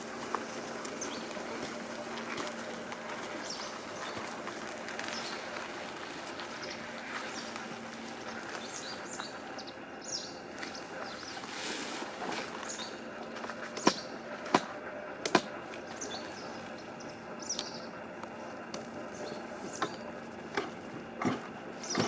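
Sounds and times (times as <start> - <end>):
small birds chirping: 0.0 - 14.4, 15.8 - 22.0
faint steady hum: 0.0 - 22.0.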